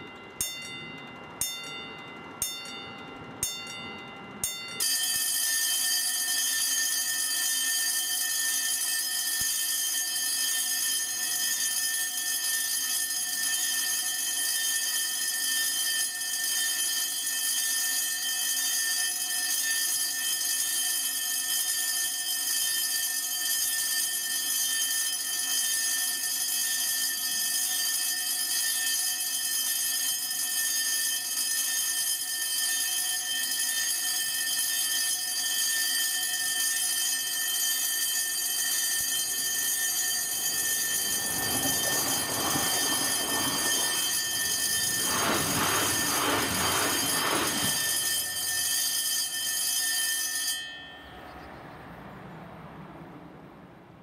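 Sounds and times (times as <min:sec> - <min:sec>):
level-crossing bells ringing: 0:00.0 - 0:52.5.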